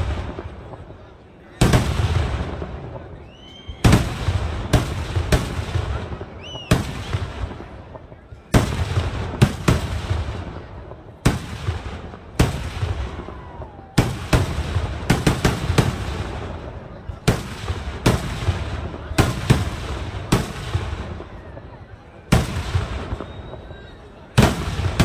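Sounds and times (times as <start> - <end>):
fireworks exploding: 0.0 - 25.0.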